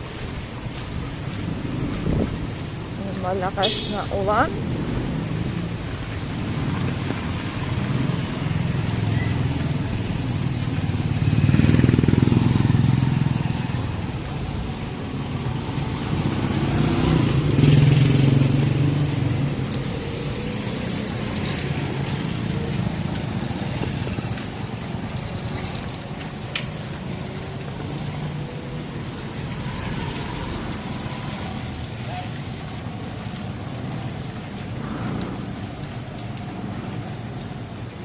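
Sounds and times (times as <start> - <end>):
street noise: 0.0 - 38.0
vehicles passing on wet street: 0.0 - 38.0.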